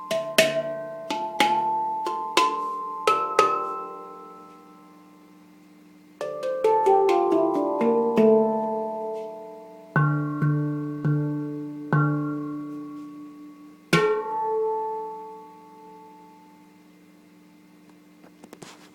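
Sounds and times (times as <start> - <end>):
handpan notes ringing: 0.0 - 5.2, 6.2 - 16.7.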